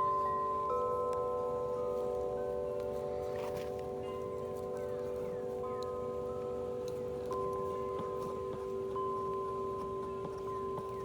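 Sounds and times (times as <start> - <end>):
metal wind chimes ringing: 0.0 - 11.0.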